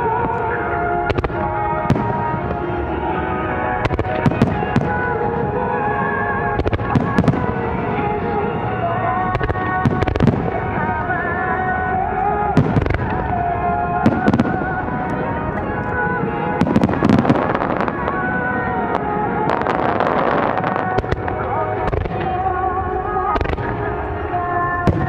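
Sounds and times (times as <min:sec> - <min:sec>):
fireworks booming: 0:00.0 - 0:25.0
music playing: 0:00.0 - 0:25.0.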